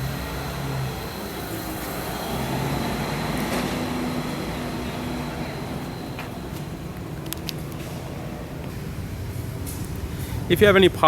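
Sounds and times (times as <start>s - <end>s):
engine running with low hum: 0.0s - 11.0s
faint high whine: 0.0s - 11.0s.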